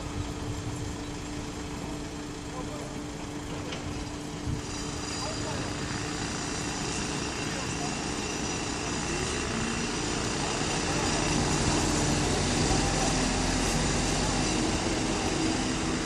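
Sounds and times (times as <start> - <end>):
diesel machinery running: 0.0 - 16.0.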